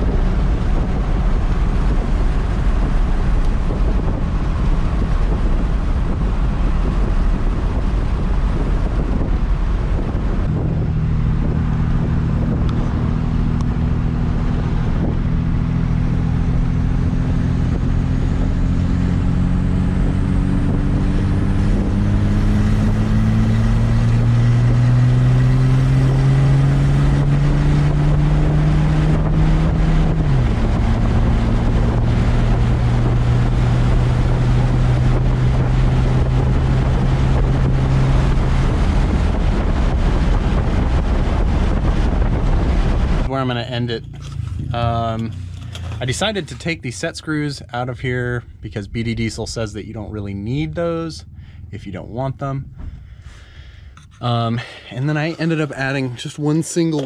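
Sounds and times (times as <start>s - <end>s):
road and wind noise: 0.0s - 57.0s
vehicle engine accelerating: 0.0s - 57.0s.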